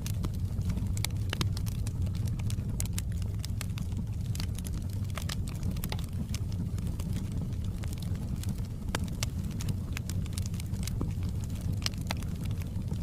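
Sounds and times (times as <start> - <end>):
flames rushing: 0.0 - 13.0
wood fire crackling: 0.0 - 13.0.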